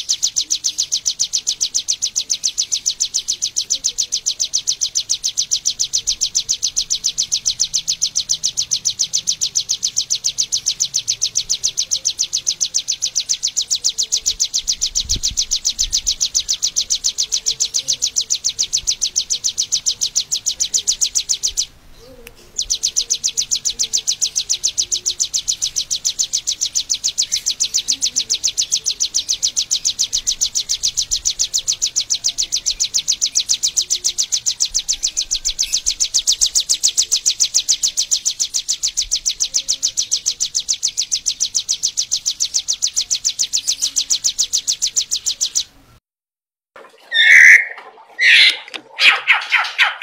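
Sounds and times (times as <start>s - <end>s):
bird singing high sharp notes: 0.0s - 45.8s, 47.1s - 50.0s.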